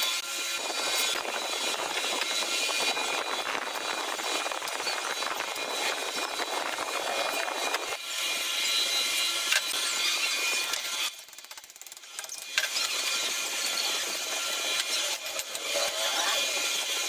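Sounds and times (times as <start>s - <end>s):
woodworking power tool running: 0.0s - 17.0s.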